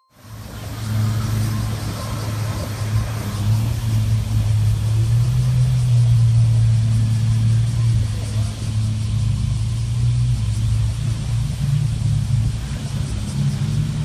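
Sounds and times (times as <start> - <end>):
motorboat engines droning: 0.0 - 14.0.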